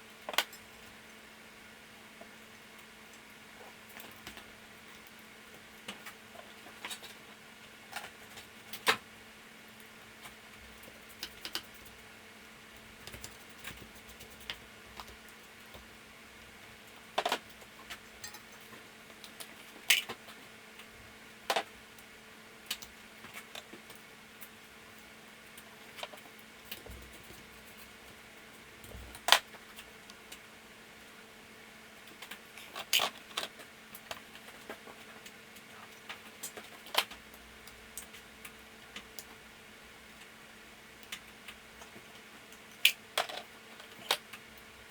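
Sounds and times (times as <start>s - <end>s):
low electrical hum: 0.0s - 44.9s.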